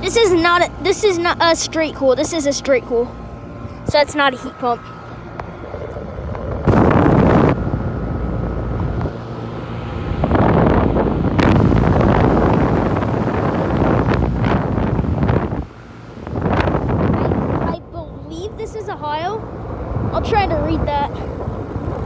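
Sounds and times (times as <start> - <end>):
air conditioner humming: 0.0 - 22.0
wind buffeting microphone: 0.0 - 22.0.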